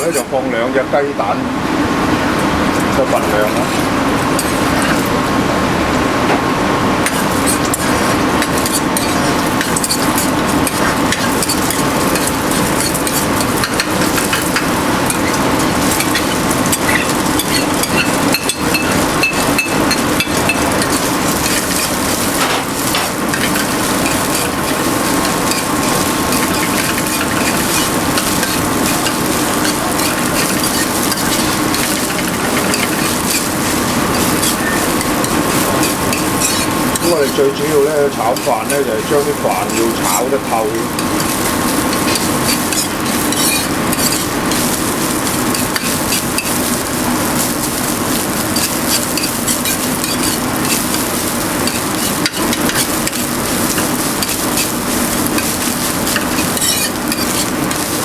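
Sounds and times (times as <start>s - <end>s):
food sizzling in oil: 0.0s - 0.3s, 1.6s - 58.0s
steady hum: 0.0s - 58.0s
ladle scraping and clacking on wok: 2.3s - 5.2s, 7.0s - 58.0s.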